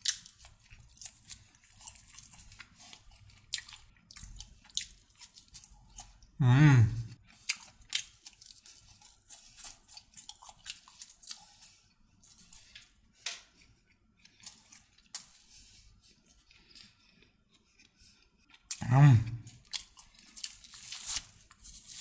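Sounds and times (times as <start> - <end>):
chewing crunchy food: 0.0 - 6.4, 7.1 - 22.0.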